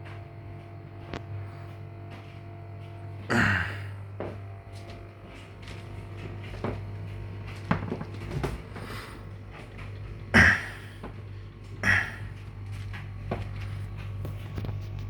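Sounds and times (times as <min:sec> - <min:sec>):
fridge low hum: 0:00.0 - 0:15.0.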